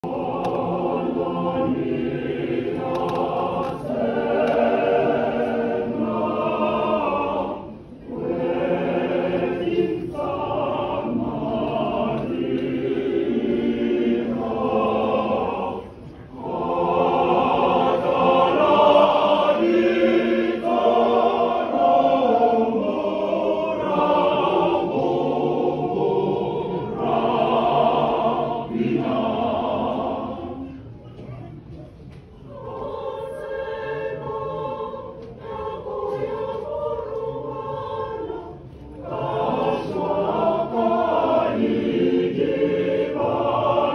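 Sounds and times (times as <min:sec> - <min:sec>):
choir singing: 0:00.0 - 0:31.0, 0:32.3 - 0:43.9.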